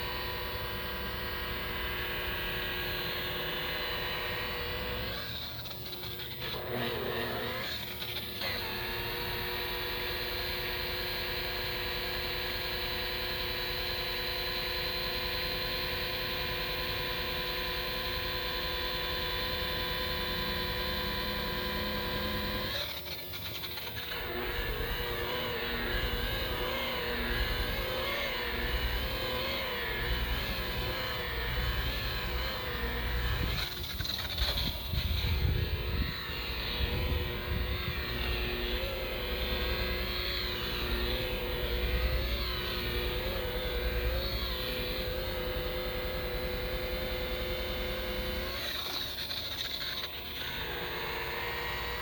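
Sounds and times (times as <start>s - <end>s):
rotary buffer motor wavering: 0.0s - 52.0s.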